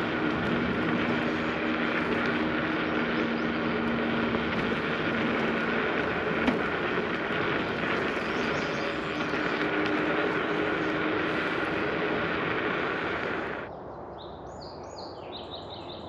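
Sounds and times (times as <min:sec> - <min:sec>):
low motor hum: 0:00.0 - 0:13.7
wind and tyre noise: 0:00.0 - 0:16.0.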